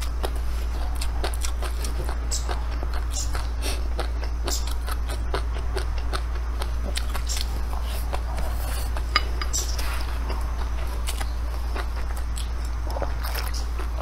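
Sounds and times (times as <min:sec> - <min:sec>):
close-up chewing: 0:00.0 - 0:14.0
steady low hum: 0:00.0 - 0:14.0.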